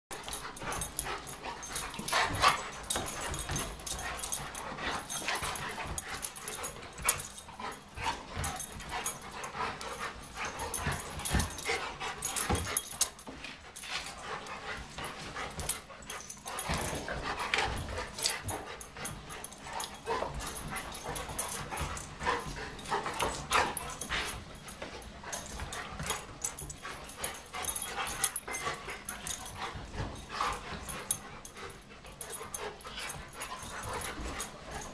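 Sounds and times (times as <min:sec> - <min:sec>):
dogs play-fighting noises: 0:00.1 - 0:34.9
scuffling of paws: 0:00.2 - 0:34.9.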